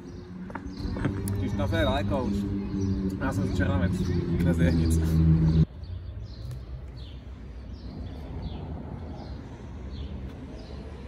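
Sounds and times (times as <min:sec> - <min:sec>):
small bird chirping: 0:00.0 - 0:10.9.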